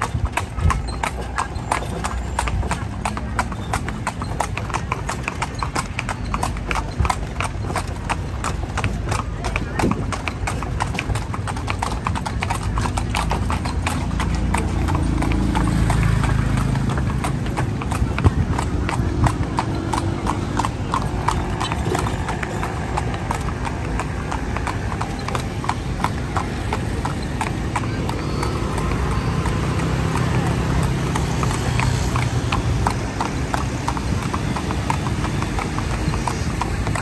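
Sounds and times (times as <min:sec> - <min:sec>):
horse hooves clip-clopping on pavement: 0:00.0 - 0:37.0
low road rumble: 0:00.0 - 0:37.0.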